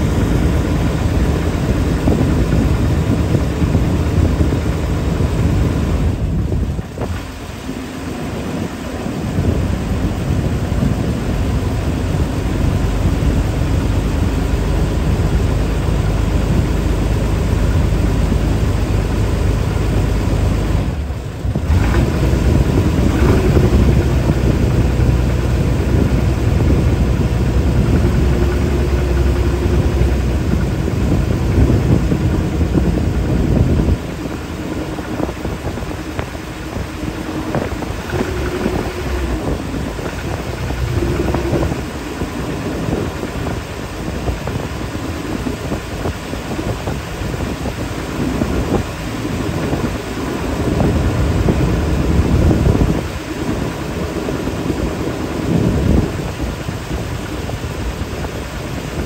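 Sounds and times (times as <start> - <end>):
boat engine running: 0.0 - 59.0
wind and water rumble: 0.0 - 59.0.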